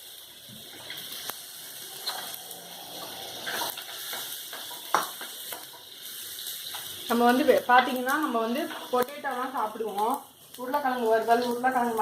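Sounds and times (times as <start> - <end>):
faint cooking hiss: 0.0 - 12.0.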